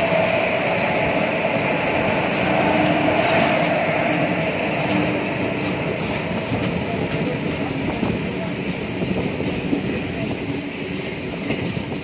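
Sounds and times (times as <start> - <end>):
train coaches rattling: 0.0 - 12.0
train wheels rolling on rails: 0.0 - 12.0.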